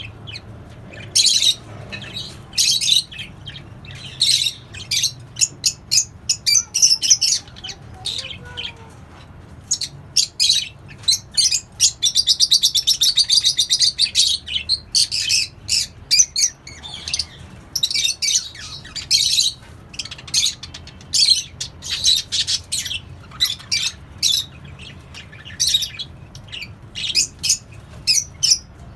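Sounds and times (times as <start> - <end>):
pet birds chirping and squawking: 0.0 - 28.9.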